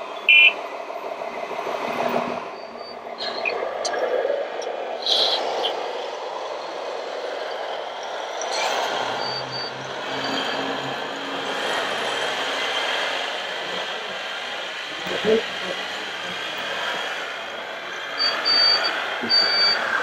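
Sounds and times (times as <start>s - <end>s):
whirring motors and hydraulics: 0.0s - 20.0s.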